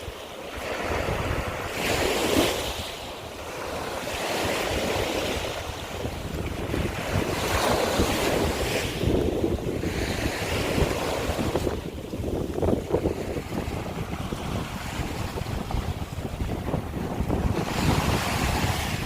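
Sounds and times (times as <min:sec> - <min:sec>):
waves washing over shells: 0:00.0 - 0:19.0
wind buffeting microphone: 0:00.0 - 0:19.0.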